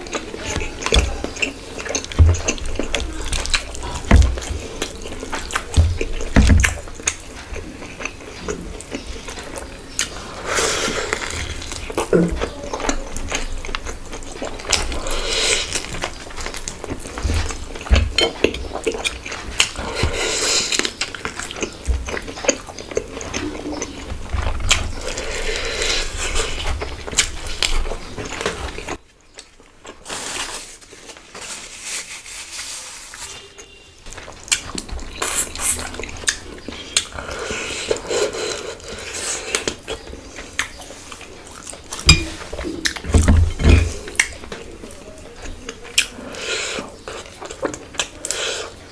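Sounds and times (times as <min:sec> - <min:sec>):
person chewing: 0:00.0 - 0:31.8, 0:32.6 - 0:48.9.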